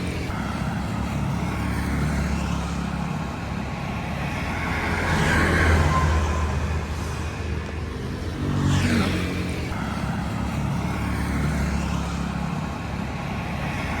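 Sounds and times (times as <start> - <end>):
vehicle engines running: 0.0 - 14.0
vehicle passing close by: 0.0 - 14.0.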